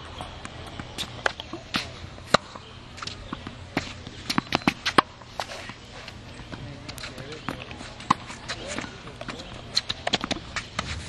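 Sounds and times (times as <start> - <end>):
balls bouncing on hard court: 0.0 - 5.8, 6.4 - 11.0
tennis balls struck by rackets: 0.0 - 11.0.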